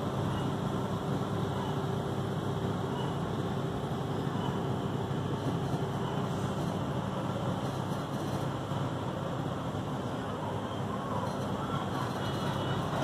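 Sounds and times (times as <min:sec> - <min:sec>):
distant city traffic hum: 0:00.0 - 0:13.0.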